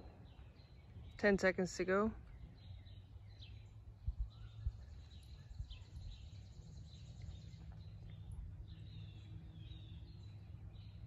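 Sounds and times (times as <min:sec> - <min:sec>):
faint bird chirps: 0:00.0 - 0:11.0
low background rumble: 0:00.0 - 0:11.0.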